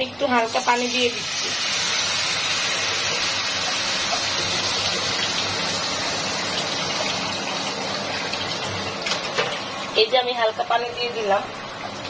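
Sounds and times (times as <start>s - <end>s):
masala sizzling in hot oil: 0.2s - 12.0s.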